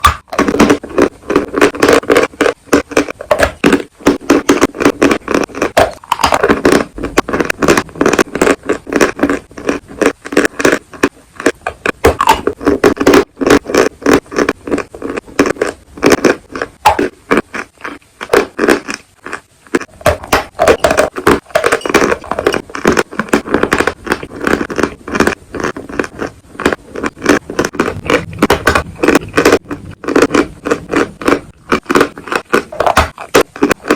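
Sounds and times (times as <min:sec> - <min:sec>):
chalk crunching being chewed: 0:00.0 - 0:33.9.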